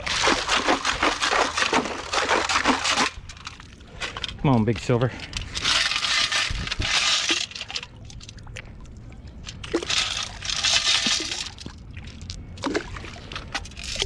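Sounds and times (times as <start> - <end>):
water sloshing and pouring: 0.0 - 14.0.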